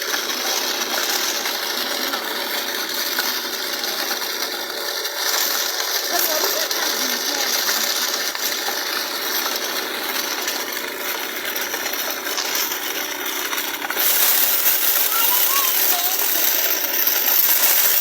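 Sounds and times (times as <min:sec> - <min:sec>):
toy mechanism metallic rattling: 0:00.0 - 0:18.0.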